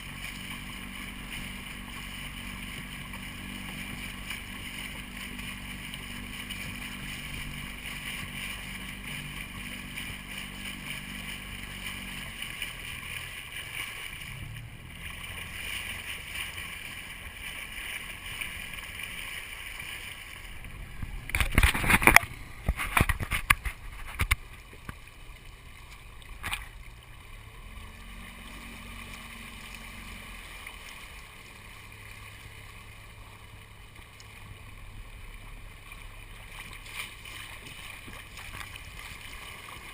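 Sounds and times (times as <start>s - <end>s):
water hissing along a hull: 0.0s - 21.4s, 23.7s - 39.9s.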